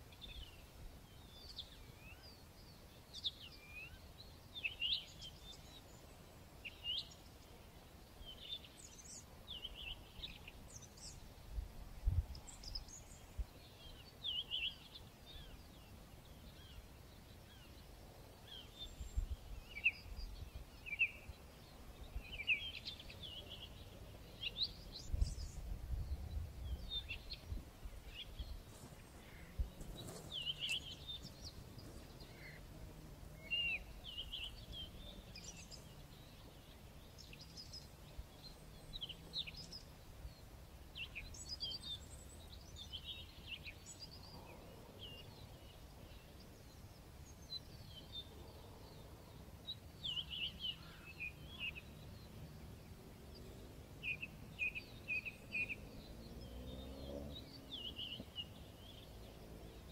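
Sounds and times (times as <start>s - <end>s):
faint outdoor background: 0.0s - 59.9s
songbirds chirping: 0.0s - 59.9s.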